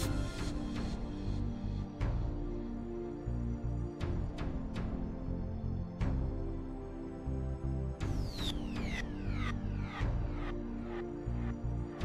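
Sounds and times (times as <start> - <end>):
sustained low music notes: 0.0 - 12.0.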